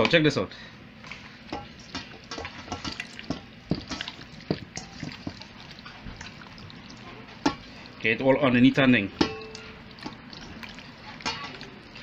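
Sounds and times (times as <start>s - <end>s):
hands squishing wet chicken: 1.1s - 12.0s.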